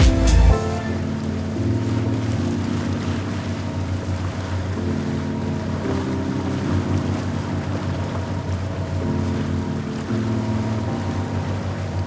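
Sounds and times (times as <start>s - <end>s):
sustained chords music: 0.0s - 12.0s.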